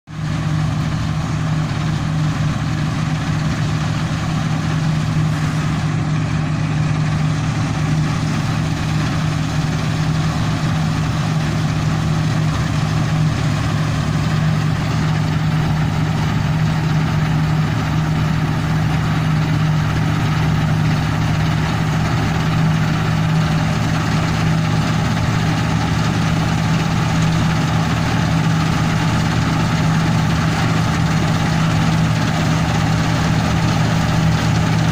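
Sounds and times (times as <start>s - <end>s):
combine harvester deep hum: 0.1s - 34.9s.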